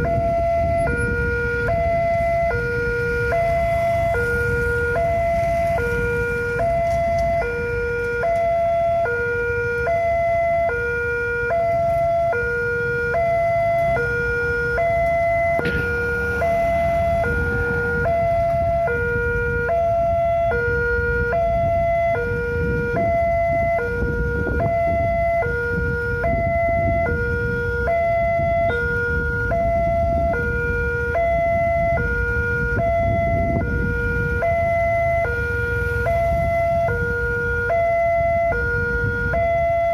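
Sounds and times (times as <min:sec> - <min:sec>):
rumble of waiting traffic: 0:00.0 - 0:39.9
two-tone crossing alarm: 0:00.0 - 0:39.9.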